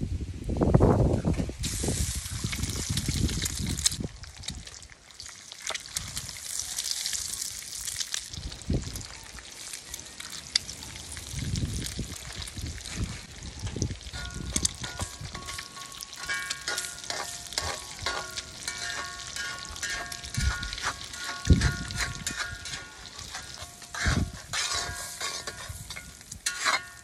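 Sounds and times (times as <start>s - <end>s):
eggs sizzling in oil: 1.6s - 27.0s.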